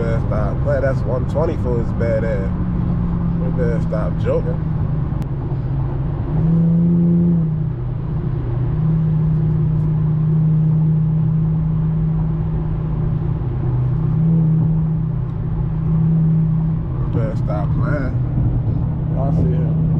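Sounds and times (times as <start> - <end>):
car engine droning: 0.0 - 19.9
road rumble: 0.0 - 19.9.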